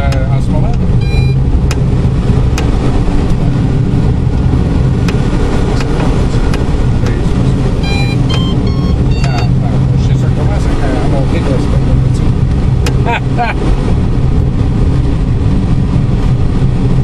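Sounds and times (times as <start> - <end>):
air rushing in cockpit: 0.0 - 17.0.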